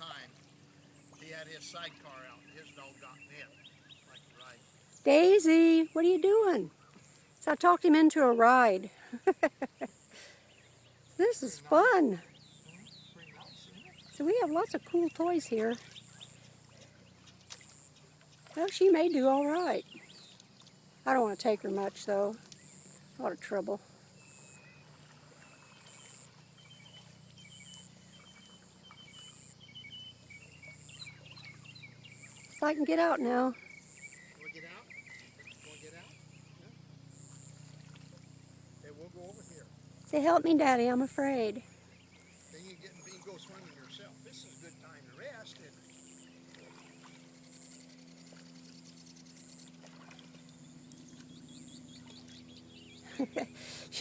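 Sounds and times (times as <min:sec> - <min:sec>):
faint water noise: 0:00.0 - 0:54.0
low steady hum: 0:00.0 - 0:54.0
small birds chirping: 0:00.0 - 0:54.0.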